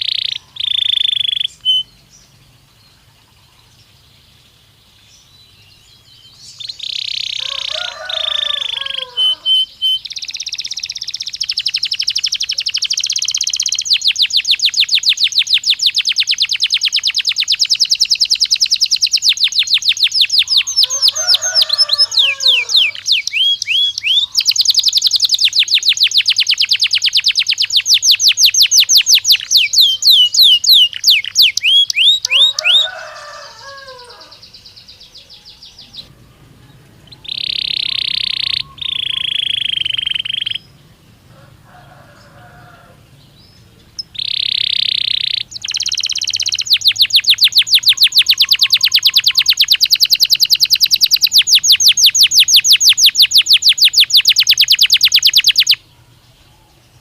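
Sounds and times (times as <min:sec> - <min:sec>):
canary singing trills: 0:00.0 - 0:57.0
lower chirping call: 0:00.0 - 0:57.0.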